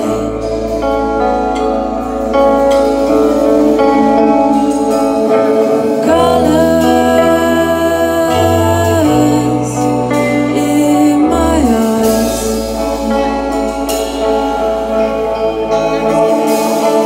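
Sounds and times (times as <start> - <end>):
bass guitar: 0.0 - 17.0
electric guitars: 0.0 - 17.0
woman singing: 0.0 - 17.0.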